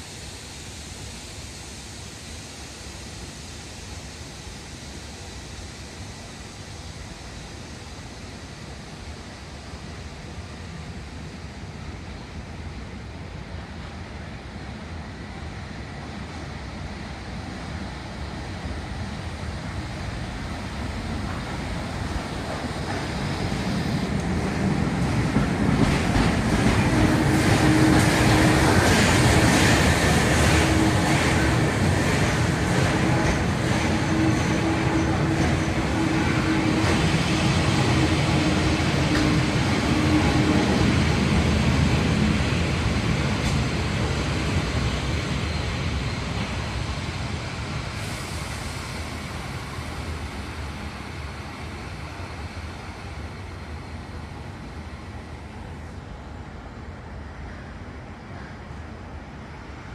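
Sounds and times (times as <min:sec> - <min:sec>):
steam train rolling past: 0:00.0 - 0:59.9.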